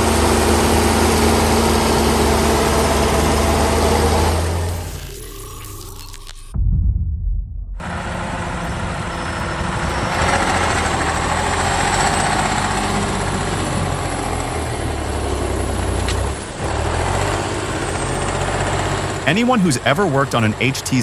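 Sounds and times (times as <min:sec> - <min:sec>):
tractor engine running: 0:00.0 - 0:05.0, 0:07.8 - 0:21.0.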